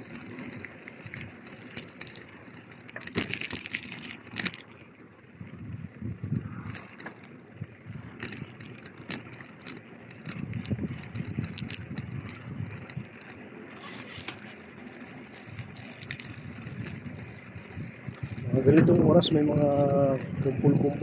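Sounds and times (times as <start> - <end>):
bicycle tyres rumbling: 0.0 - 21.0
bike parts rattling: 0.0 - 21.0.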